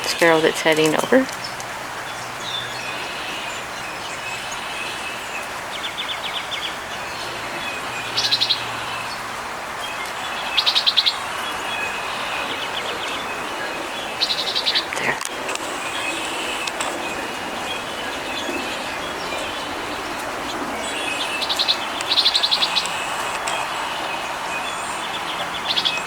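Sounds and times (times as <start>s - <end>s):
songbird rapid trills: 0.0s - 26.0s.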